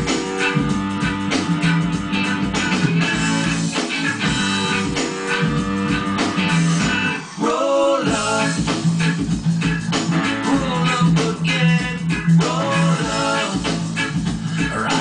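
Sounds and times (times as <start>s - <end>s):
bass line: 0.0s - 15.0s
guitar-led music: 0.0s - 15.0s.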